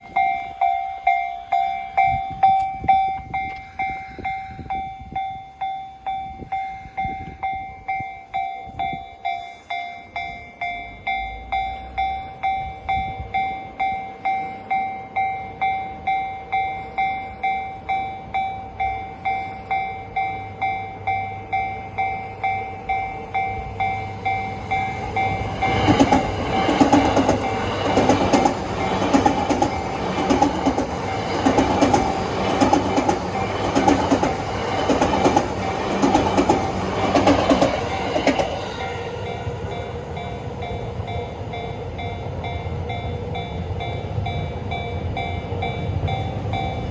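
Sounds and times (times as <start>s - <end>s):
level crossing alarm bell: 0.0s - 46.9s
train running noise: 0.0s - 46.9s.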